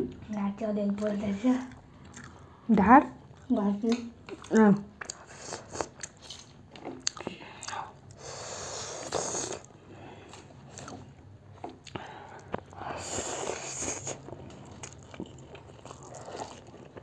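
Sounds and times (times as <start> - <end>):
chewing: 0.9 - 2.6, 3.3 - 8.2, 9.0 - 17.0.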